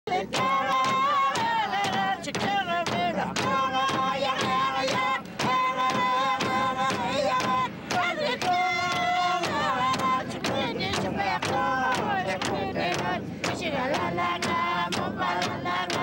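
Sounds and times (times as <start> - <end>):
frame drums struck with sticks: 0.2 - 16.0.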